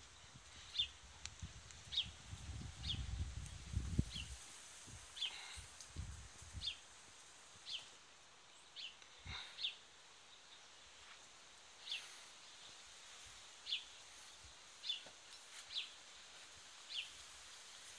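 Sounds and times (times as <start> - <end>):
faint outdoor hiss: 0.0 - 17.9.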